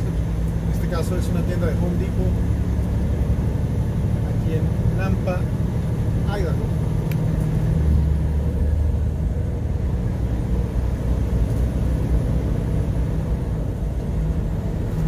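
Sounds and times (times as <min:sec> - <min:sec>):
diesel truck engine rumble: 0:00.0 - 0:15.0
tyre and road noise: 0:00.0 - 0:15.0.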